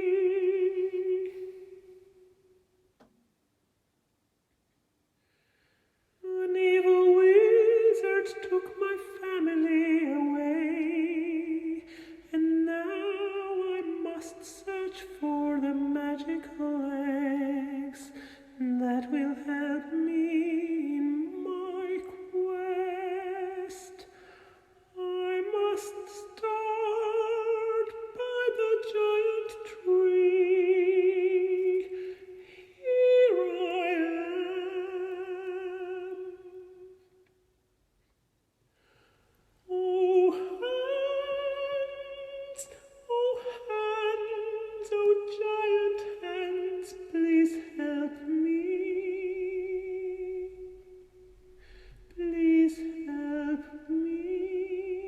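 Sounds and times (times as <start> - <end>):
woman singing with vibrato: 0.0 - 2.2, 6.2 - 24.1, 24.8 - 37.0, 39.6 - 51.4, 52.1 - 55.0.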